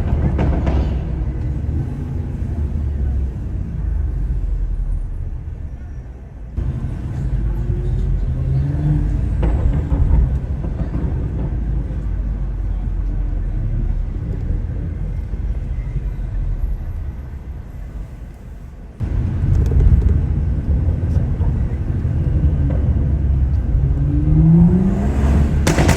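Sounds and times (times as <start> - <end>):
car engine and road noise: 0.0 - 25.9.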